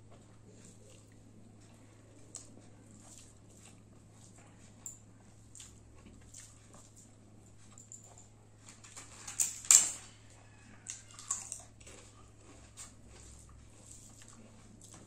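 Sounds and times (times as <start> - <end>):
person chewing rice: 0.0 - 9.4, 10.0 - 15.0.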